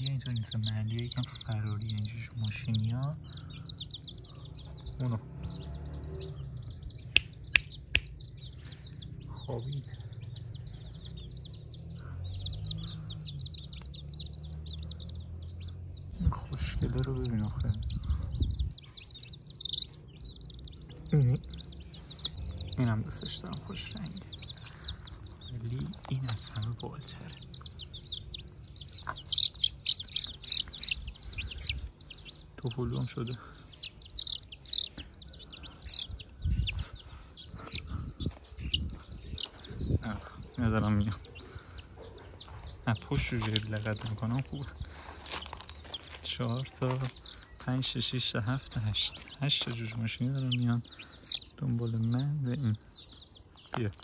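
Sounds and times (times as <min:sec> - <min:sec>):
steady low rumble: 0:00.0 - 0:46.4
chicks peeping: 0:00.0 - 0:54.0.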